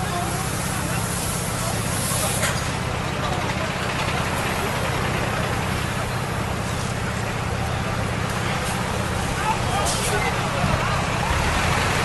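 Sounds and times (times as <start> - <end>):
heavy vehicle engine idling: 0.0 - 12.0
outdoor noise: 0.0 - 12.0.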